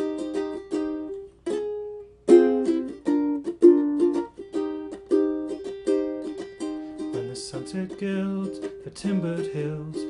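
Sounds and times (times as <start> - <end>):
ukulele strumming: 0.0 - 10.0.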